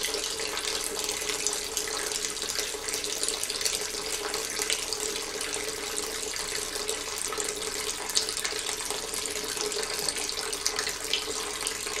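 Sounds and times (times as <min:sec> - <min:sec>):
liquid pouring and trickling: 0:00.0 - 0:12.0.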